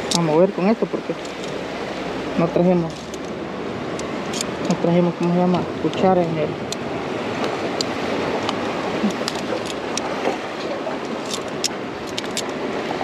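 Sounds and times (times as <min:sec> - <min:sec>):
surf rushing: 0:00.0 - 0:13.0.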